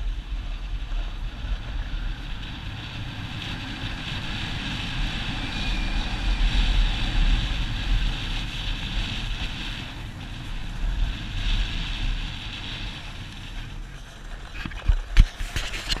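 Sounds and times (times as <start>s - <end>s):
wind buffeting microphone: 0.0s - 16.0s
snowboard hissing over snow: 1.4s - 14.3s.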